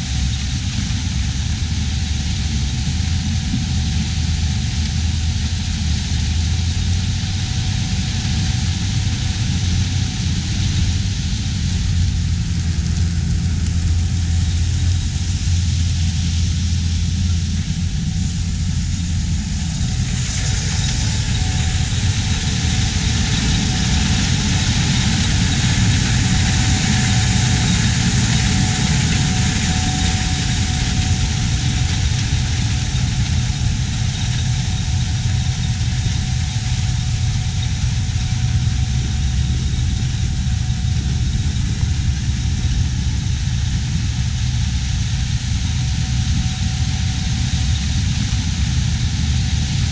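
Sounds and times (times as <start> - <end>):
diesel engine humming: 0.0 - 49.9
hiss: 0.0 - 49.9.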